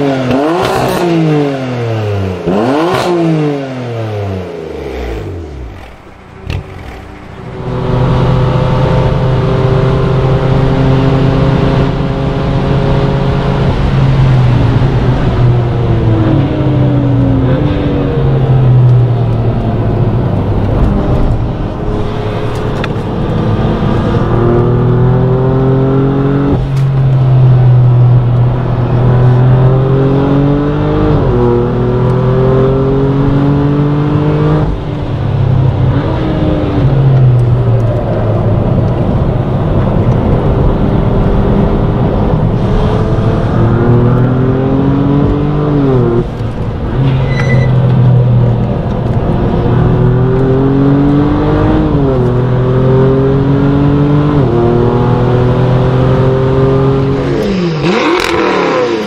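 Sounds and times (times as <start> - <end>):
car engine accelerating through gears: 0.0 - 59.0.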